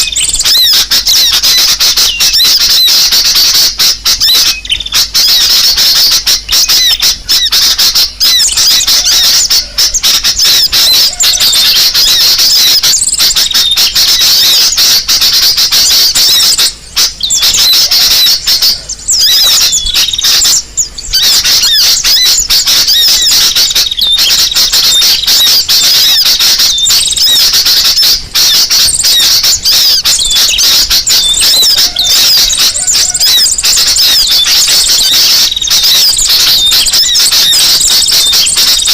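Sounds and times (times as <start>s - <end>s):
high-pitched bird chirping: 0.0s - 38.9s.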